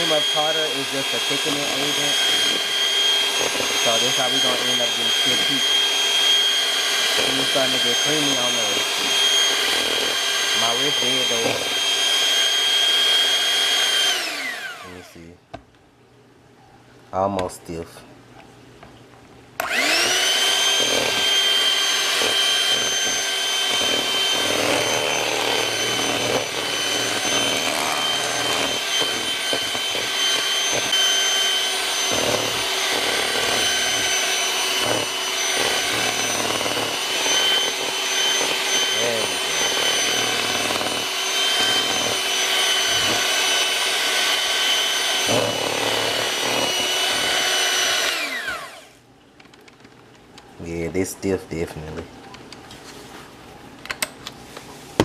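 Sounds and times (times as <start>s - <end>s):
beaters whipping cream in bowl: 0.0s - 15.1s, 19.6s - 48.9s
electric hand mixer whining: 0.0s - 15.2s, 19.6s - 49.0s.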